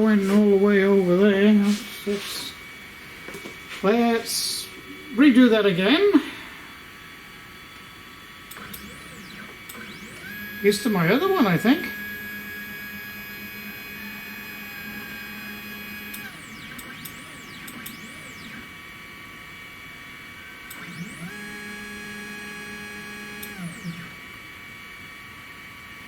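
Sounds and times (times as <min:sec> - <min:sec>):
stepper motors whining: 0:00.0 - 0:24.4.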